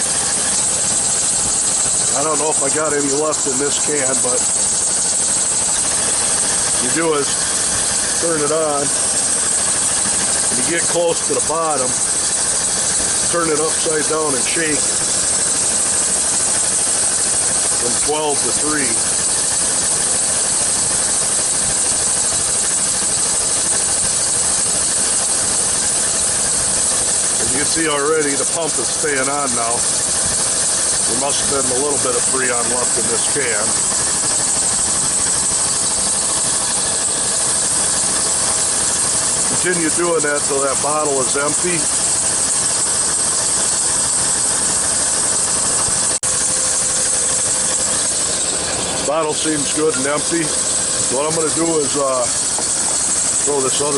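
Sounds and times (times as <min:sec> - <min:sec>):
air conditioning rushing hiss: 0:00.0 - 0:53.9
car engine idling: 0:00.0 - 0:53.9.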